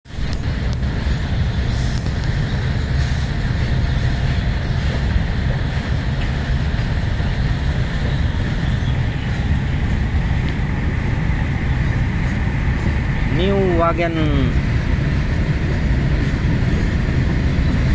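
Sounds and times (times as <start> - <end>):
train wheels rumbling on rail: 0.1 - 17.9.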